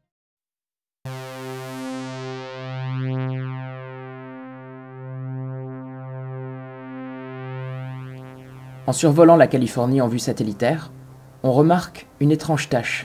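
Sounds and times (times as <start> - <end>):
low synthesizer drone: 1.1 - 12.2.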